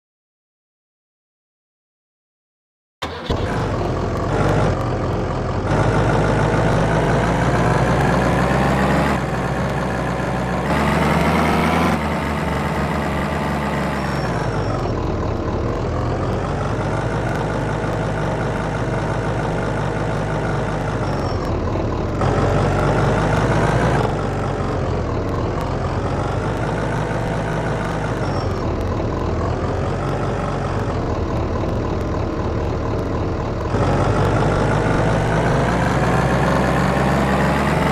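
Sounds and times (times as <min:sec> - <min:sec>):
heavy diesel engine running: 0:03.0 - 0:37.9.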